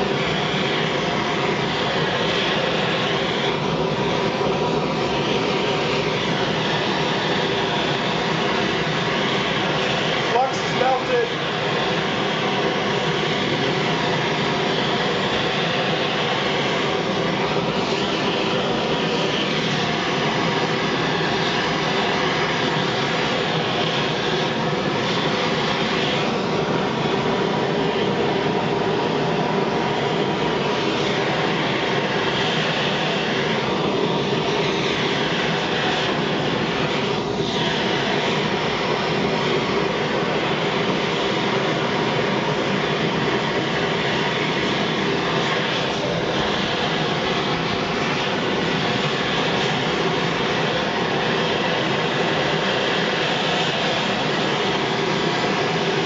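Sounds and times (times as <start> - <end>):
propane torch burning: 0.0 - 56.0.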